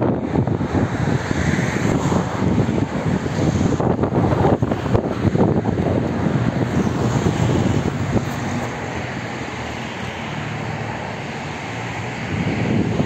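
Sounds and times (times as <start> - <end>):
traffic rumble: 0.0 - 13.0
wind buffeting microphone: 0.0 - 13.0.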